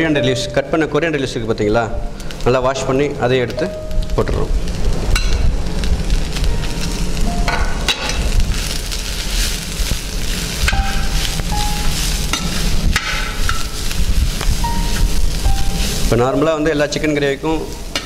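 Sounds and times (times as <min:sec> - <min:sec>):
oil sizzling: 0:01.4 - 0:18.0.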